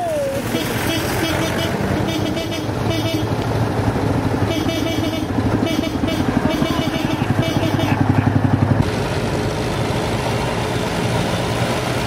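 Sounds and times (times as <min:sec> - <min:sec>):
old tractor engine chugging: 0:00.4 - 0:12.0.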